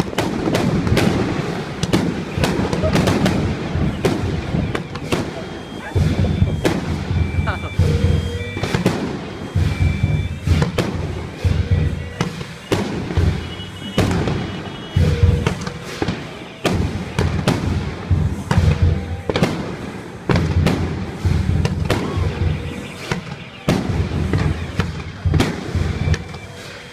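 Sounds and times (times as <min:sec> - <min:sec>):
fireworks deep booms: 0:00.0 - 0:26.9
fireworks sharp bangs: 0:00.0 - 0:26.9.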